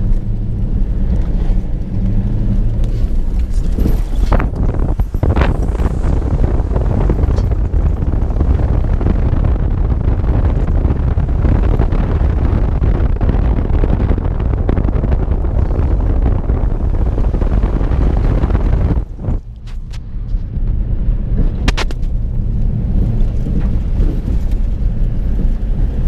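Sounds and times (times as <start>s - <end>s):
car rumbling on dirt trail: 0.0s - 26.0s
wind buffeting microphone: 0.0s - 26.0s.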